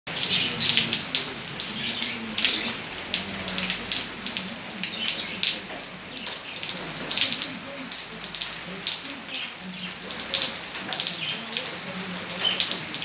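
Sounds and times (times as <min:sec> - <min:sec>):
rain pattering: 0:00.1 - 0:13.0.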